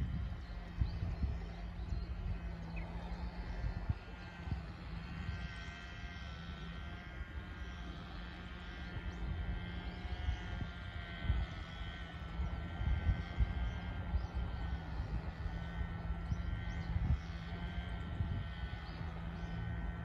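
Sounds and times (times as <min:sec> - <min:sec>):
faint whine drifting in pitch: 0:00.0 - 0:20.0.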